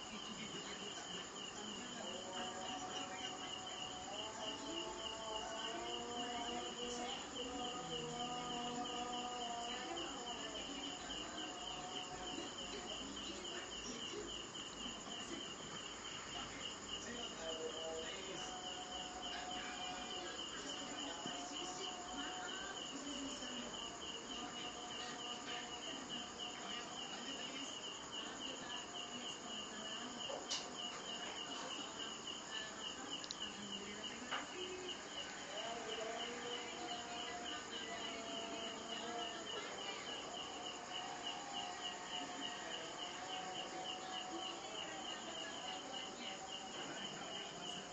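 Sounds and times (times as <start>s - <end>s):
cricket chirping trill: 0.0s - 47.9s.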